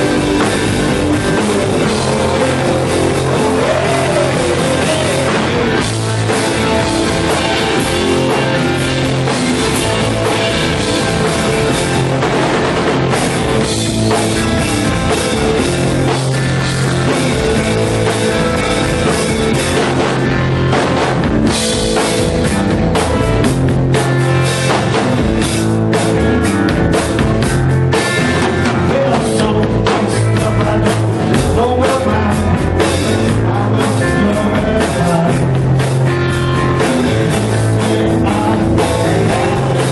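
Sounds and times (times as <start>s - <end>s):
bass guitar: 0.0s - 39.9s
distorted electric guitars: 0.0s - 39.9s
drum kit beat: 0.0s - 39.9s.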